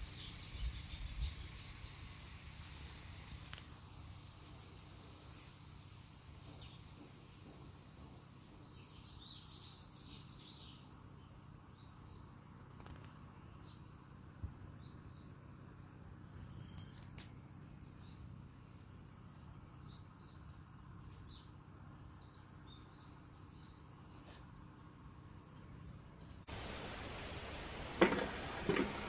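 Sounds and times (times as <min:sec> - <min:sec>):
faint birds chirping: 0:00.0 - 0:27.7.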